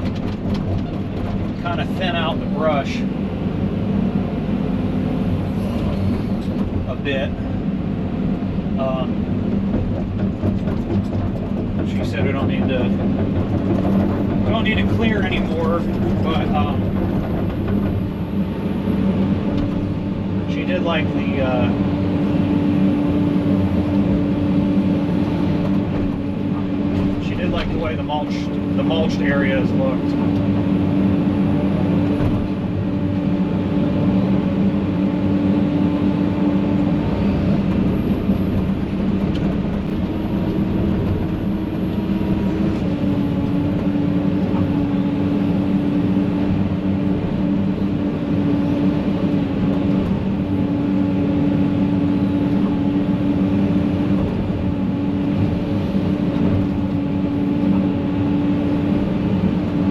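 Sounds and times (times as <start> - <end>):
mulcher engine drone: 0.0 - 59.9.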